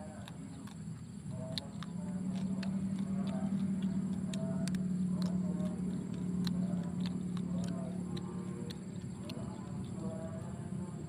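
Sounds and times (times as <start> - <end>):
crunchy chewing of bones: 0.0 - 11.0
steady low hum: 0.0 - 11.0.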